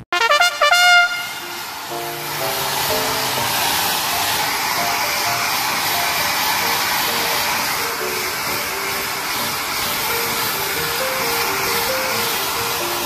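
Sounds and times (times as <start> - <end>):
hair dryer blowing: 0.7 - 13.0.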